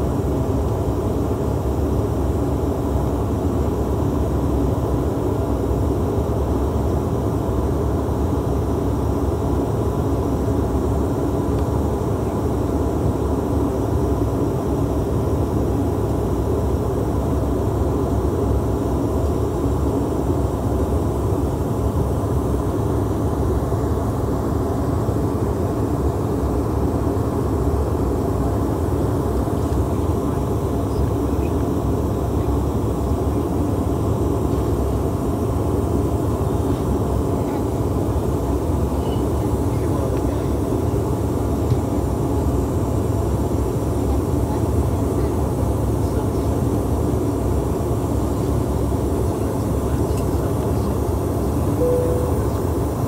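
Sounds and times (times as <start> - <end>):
faint steady whine: 0.0 - 53.0
jet engines droning: 0.0 - 53.0.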